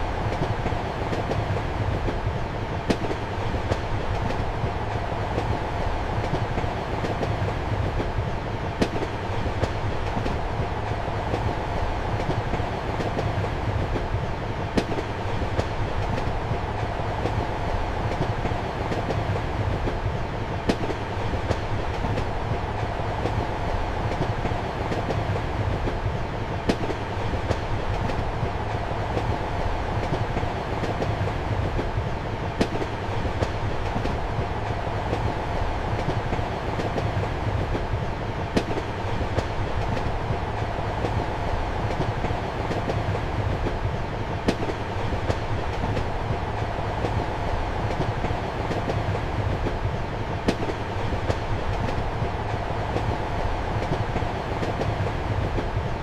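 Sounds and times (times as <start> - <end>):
train carriage rumble and hum: 0.0 - 56.0
train wheels clicking: 0.0 - 56.0.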